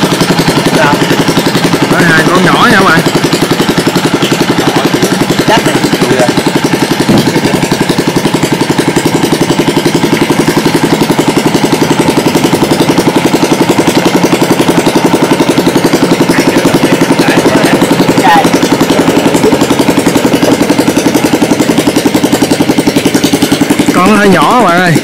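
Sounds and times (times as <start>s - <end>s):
small boat engine running: 0.0s - 25.0s.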